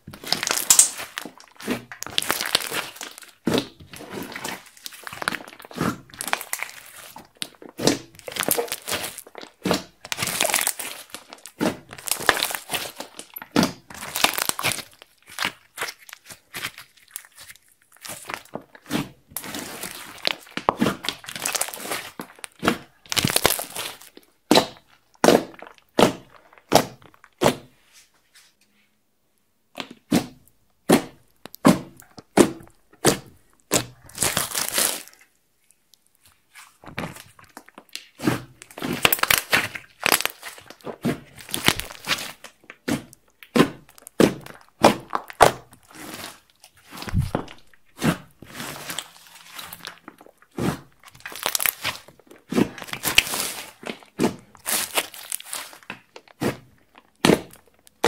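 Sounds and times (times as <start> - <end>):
slime popping and squelching: 0.0 - 27.8, 29.7 - 58.0.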